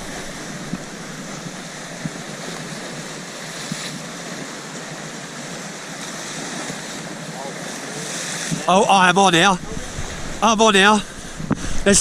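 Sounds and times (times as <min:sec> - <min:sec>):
sea washing against a wall: 0:00.0 - 0:12.0.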